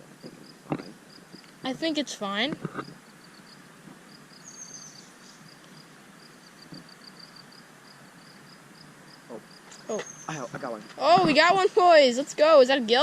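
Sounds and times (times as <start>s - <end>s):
insect chirping in short pulses: 0.0s - 12.3s.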